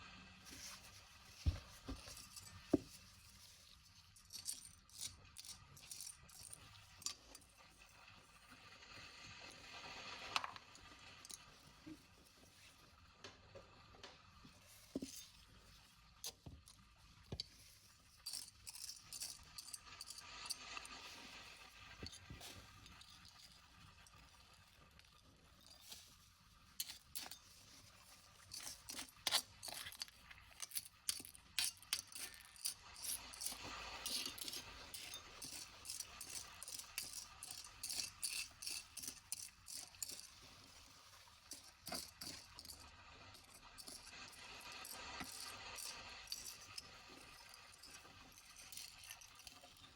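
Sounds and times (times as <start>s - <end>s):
small hard objects clinking: 0.6s - 8.1s, 16.2s - 49.9s.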